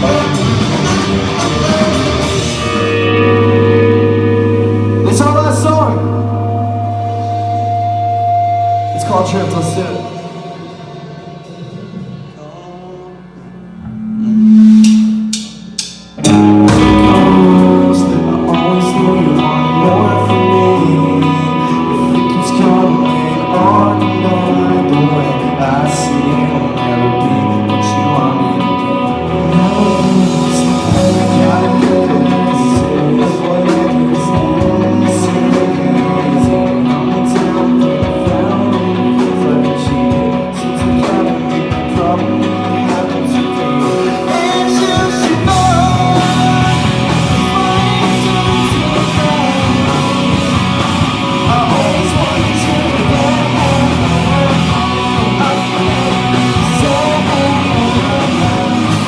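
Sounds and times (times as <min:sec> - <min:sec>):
person singing: 0:00.0 - 0:13.6, 0:16.2 - 0:59.0
drums: 0:00.0 - 0:59.0
electric guitars: 0:00.0 - 0:59.0.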